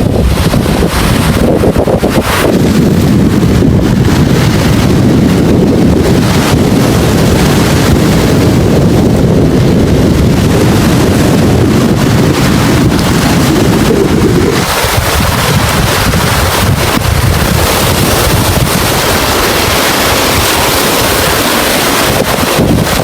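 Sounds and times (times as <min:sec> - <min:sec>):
rough sea waves: 0:00.0 - 0:23.0
wind buffeting microphone: 0:00.0 - 0:23.0.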